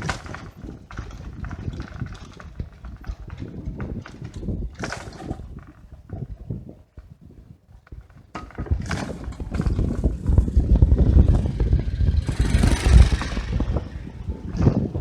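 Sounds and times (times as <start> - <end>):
bicycle knocks and rattles: 0.0 - 15.0
wind rumble on microphone: 0.0 - 15.0.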